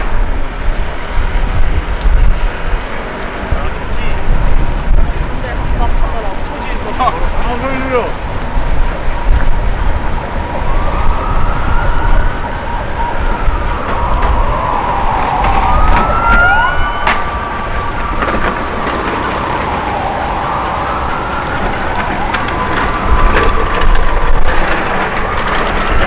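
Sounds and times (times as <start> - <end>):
wind rumbling on microphone: 0.0 - 26.0
emergency siren wailing: 4.5 - 26.0.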